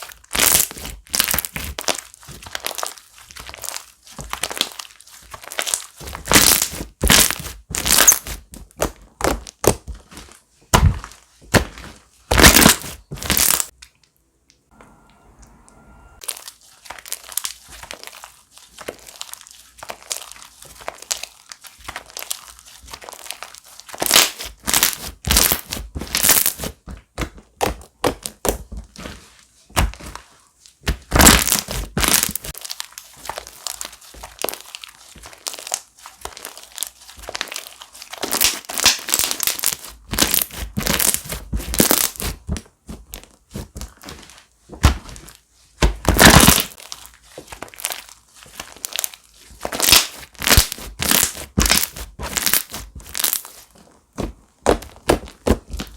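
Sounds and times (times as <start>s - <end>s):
slime crackling and popping: 0.0s - 13.8s, 16.2s - 29.1s, 29.8s - 55.9s.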